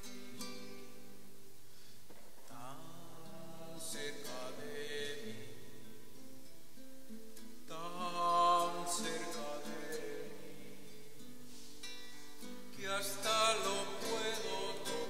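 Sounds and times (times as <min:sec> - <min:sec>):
slow church music on guitar: 0:00.0 - 0:15.0.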